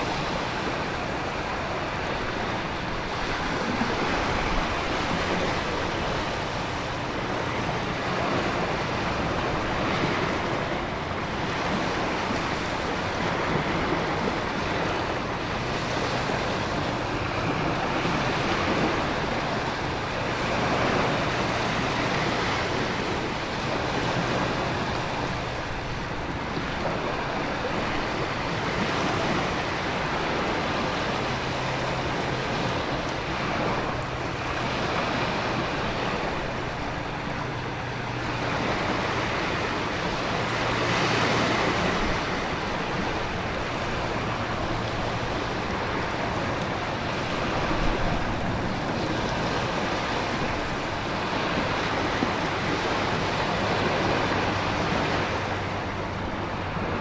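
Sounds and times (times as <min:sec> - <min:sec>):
waves breaking: 0:00.0 - 0:57.0
wind: 0:00.0 - 0:57.0.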